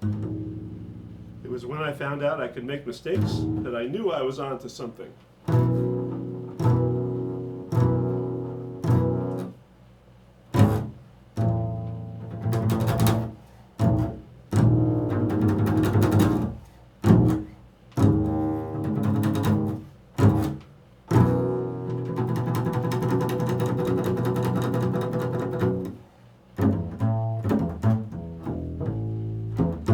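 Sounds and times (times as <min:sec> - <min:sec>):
double bass notes: 0:00.0 - 0:04.1, 0:05.4 - 0:29.9
jazz music: 0:02.9 - 0:03.9, 0:05.4 - 0:09.6, 0:10.5 - 0:29.9.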